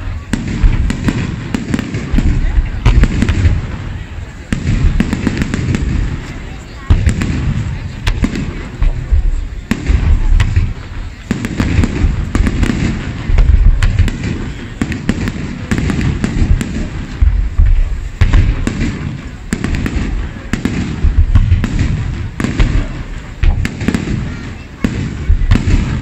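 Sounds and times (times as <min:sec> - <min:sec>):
fireworks launching and bursting: 0:00.0 - 0:26.0.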